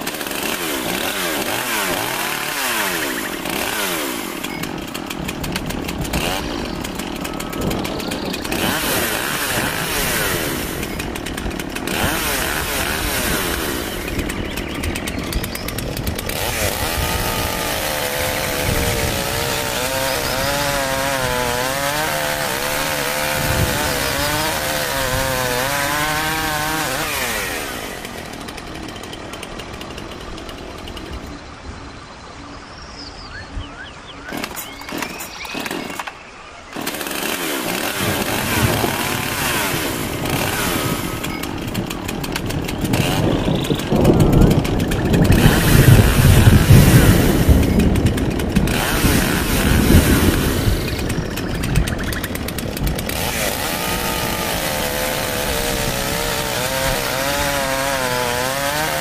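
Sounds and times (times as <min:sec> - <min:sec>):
chainsaw running: 0:00.0 - 0:31.6, 0:34.2 - 0:59.0.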